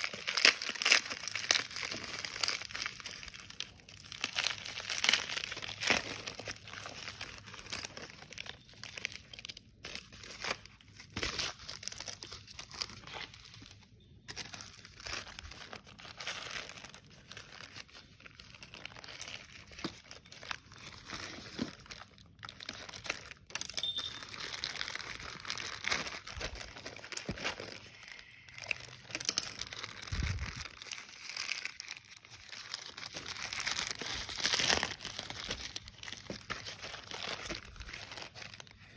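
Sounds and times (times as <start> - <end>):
packaging tearing: 0.0 - 13.7, 14.3 - 38.9
packaging crinkling: 0.0 - 38.9.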